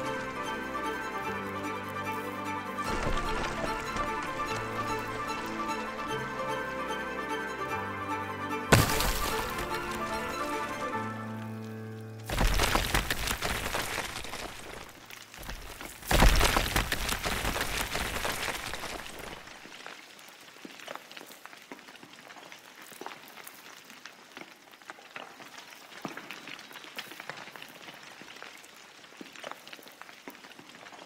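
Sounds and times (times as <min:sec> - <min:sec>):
rocks and gravel clattering down slope: 0:02.0 - 0:06.4, 0:08.7 - 0:11.5, 0:12.2 - 0:31.0.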